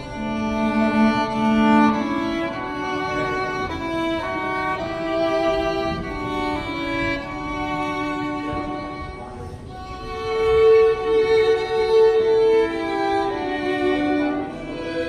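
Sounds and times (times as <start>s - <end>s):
violin and viola duet: 0.0s - 15.0s.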